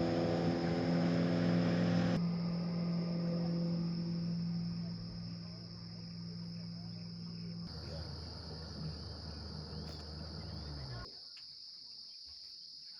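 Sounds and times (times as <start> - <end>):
low engine hum: 0.0 - 11.1
crickets trilling: 0.0 - 12.9.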